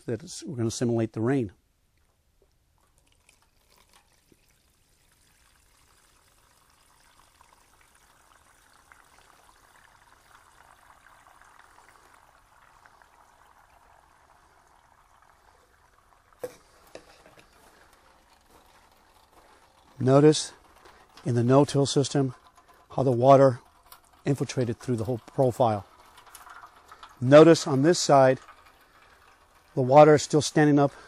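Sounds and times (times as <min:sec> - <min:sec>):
water trickling onto soil: 0:02.0 - 0:31.0.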